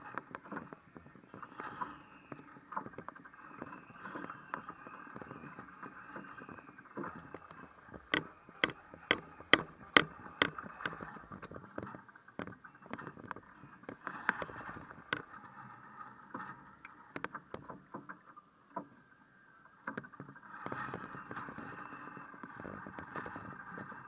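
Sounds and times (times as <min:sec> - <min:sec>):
water splashing along a hull: 0:00.0 - 0:24.0.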